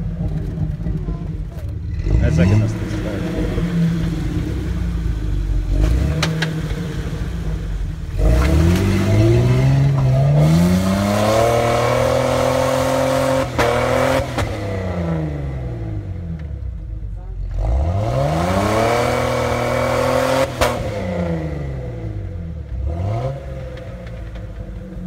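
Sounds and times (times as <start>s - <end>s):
car engine revving uphill: 0.0s - 25.0s.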